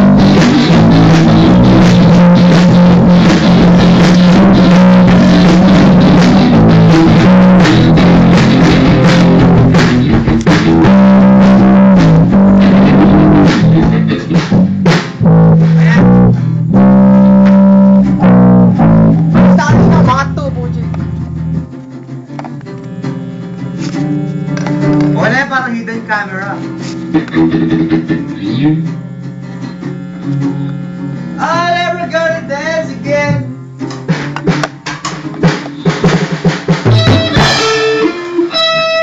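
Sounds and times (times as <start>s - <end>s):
rock band playing loud: 0.0s - 39.0s.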